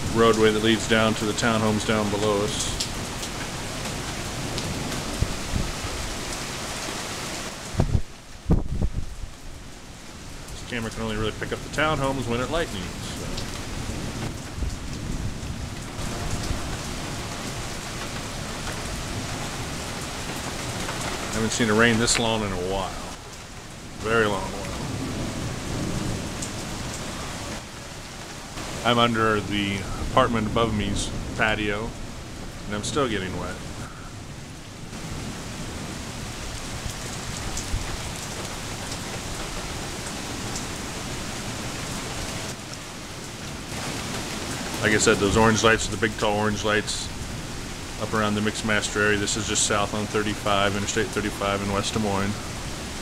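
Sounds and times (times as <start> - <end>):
heavy rain hissing: 0.0 - 53.0
raindrops splashing close: 0.0 - 53.0.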